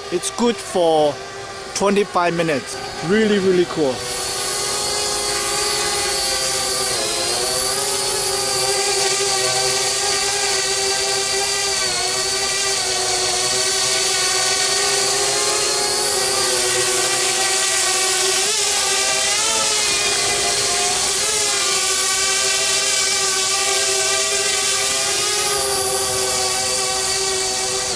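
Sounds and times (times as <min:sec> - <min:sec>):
drone propellers whining: 0:00.0 - 0:27.9.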